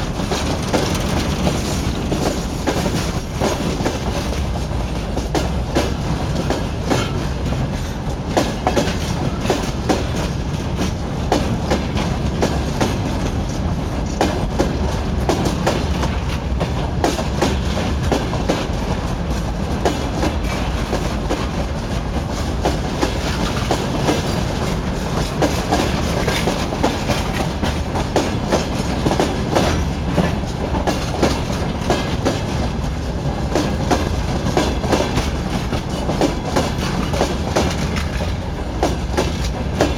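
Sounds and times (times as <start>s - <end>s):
low train rumble: 0.0s - 39.9s
train wheels clicking on rails: 0.0s - 39.9s.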